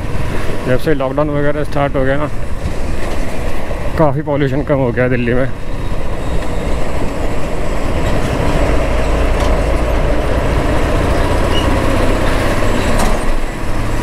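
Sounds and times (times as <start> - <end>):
traffic: 0.0 - 14.0.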